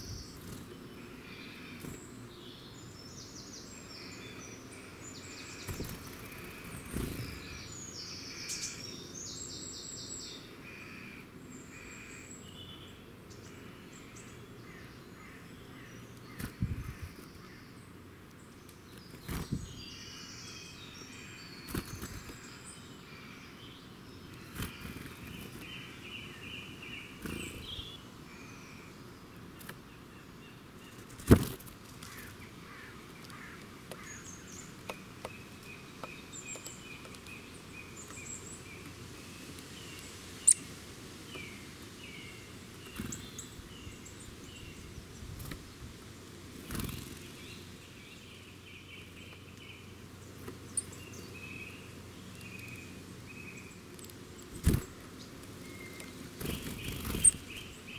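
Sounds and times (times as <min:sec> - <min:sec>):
small birds singing: 0:00.0 - 0:57.9.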